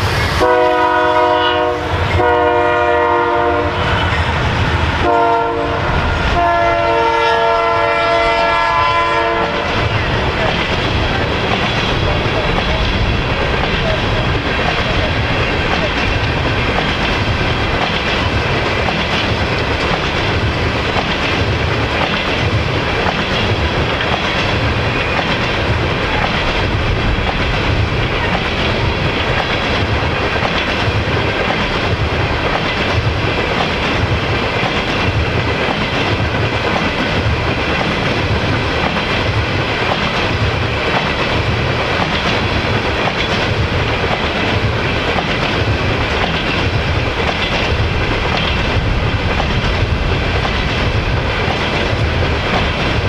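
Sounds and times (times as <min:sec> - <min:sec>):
train rumble: 0:00.0 - 0:53.0
train wheels clacking on rail joints: 0:00.0 - 0:53.0.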